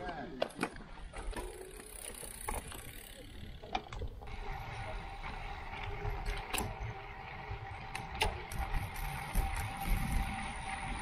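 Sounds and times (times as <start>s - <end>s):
road noise: 2.0s - 11.0s.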